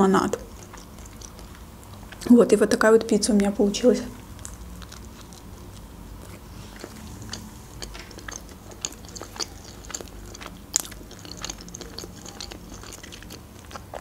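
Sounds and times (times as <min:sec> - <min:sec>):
person chewing food: 0:00.3 - 0:02.3, 0:04.2 - 0:14.0.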